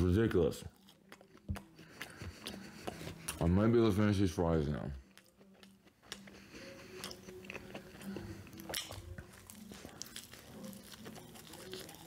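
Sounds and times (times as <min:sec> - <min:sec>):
person chewing french fries: 0:00.1 - 0:03.7, 0:04.5 - 0:12.0.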